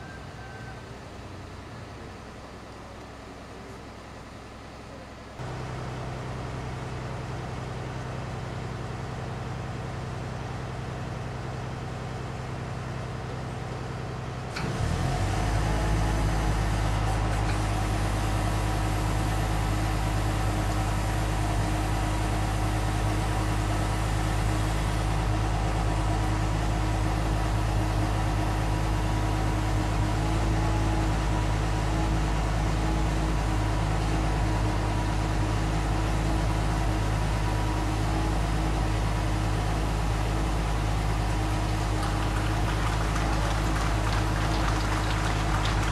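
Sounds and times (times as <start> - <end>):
engine humming: 0.0 - 45.9.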